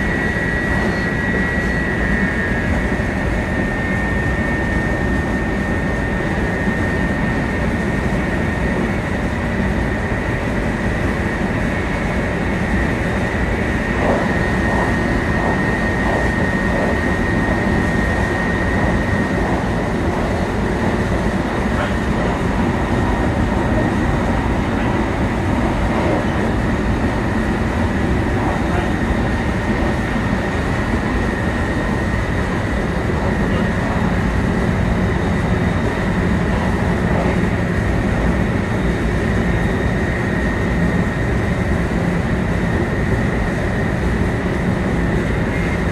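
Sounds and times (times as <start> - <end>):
high whine: 0.0 - 6.4, 11.3 - 45.9
train wheels rumbling on rail: 0.0 - 45.9.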